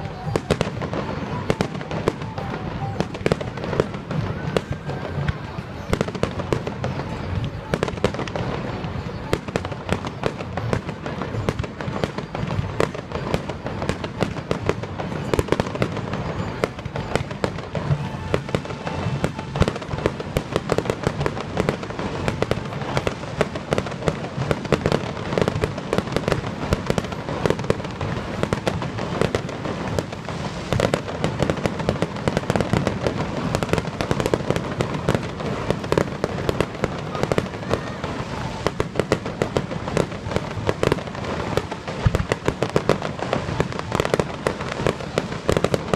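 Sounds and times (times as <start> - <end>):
fireworks bangs and crackle: 0.0 - 45.9.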